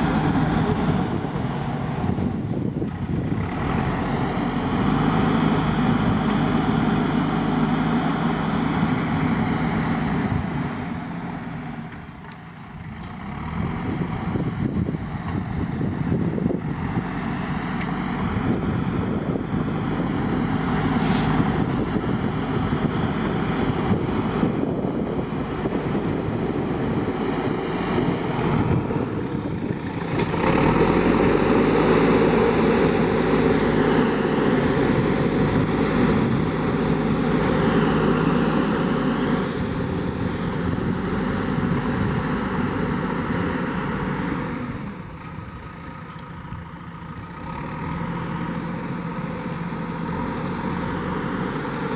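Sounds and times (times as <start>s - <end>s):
diesel engine under load: 0.0s - 51.9s.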